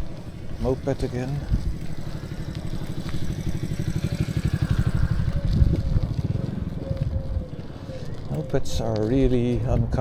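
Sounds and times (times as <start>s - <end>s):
moped engine running: 0.0s - 8.3s.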